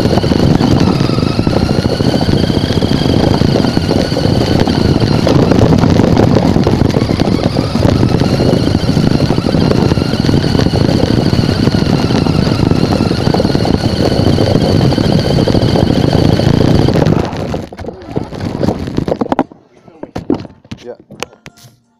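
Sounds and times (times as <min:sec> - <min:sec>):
small vehicle motor running: 0:00.0 - 0:19.4.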